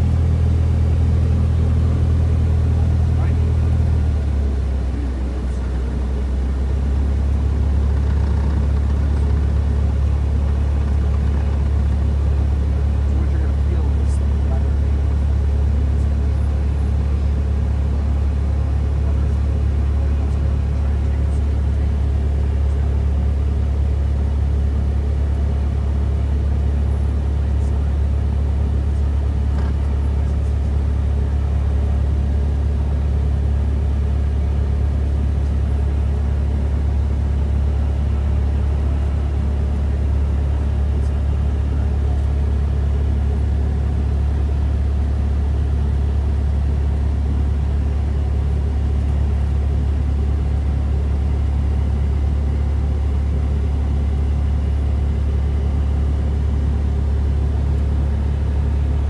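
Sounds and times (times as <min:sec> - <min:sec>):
airplane propeller engine drone: 0:00.0 - 0:59.0.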